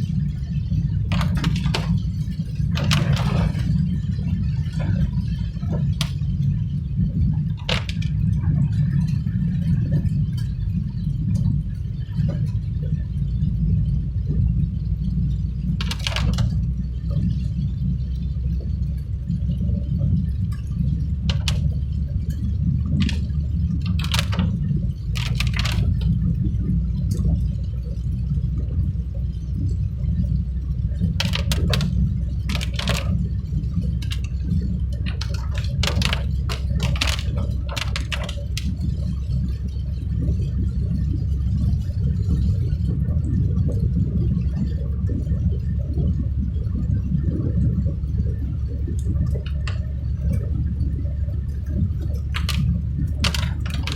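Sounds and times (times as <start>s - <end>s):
low rumble of road noise: 0.0s - 53.9s.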